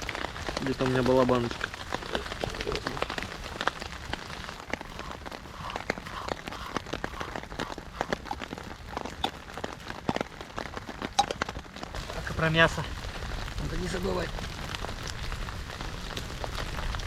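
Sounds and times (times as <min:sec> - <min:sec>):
rain falling: 0:00.0 - 0:17.0
raindrops ticking on a tarp: 0:00.0 - 0:17.0.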